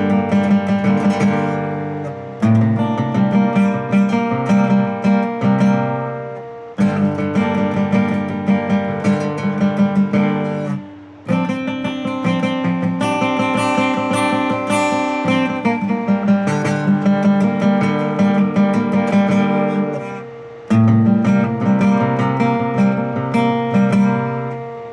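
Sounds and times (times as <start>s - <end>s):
guitar strumming chords: 0.0s - 24.9s.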